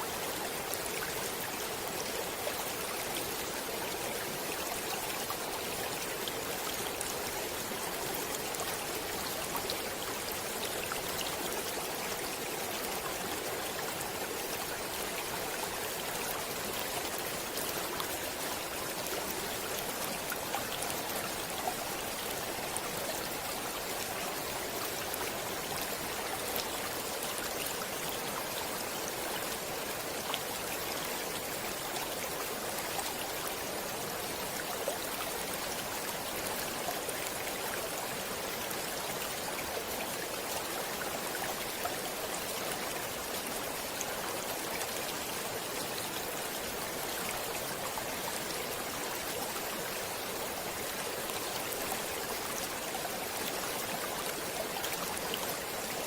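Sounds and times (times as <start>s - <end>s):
stream water running over stones: 0.0s - 56.0s.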